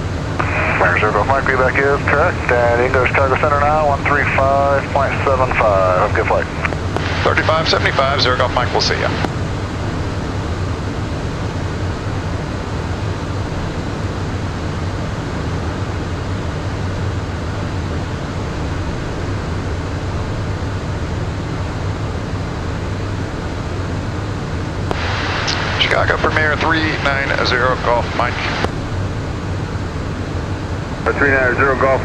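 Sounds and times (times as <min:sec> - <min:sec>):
jet cockpit airflow rush: 0:00.0 - 0:32.0.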